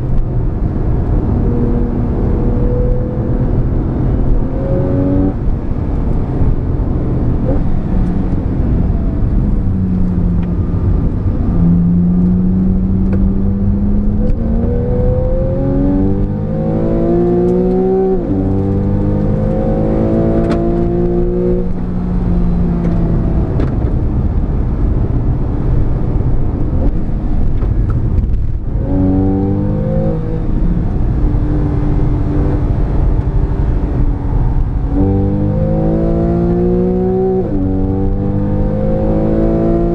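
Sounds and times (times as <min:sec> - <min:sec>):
sports car engine accelerating: 0:00.0 - 0:39.9
tyre and wind noise: 0:00.0 - 0:39.9.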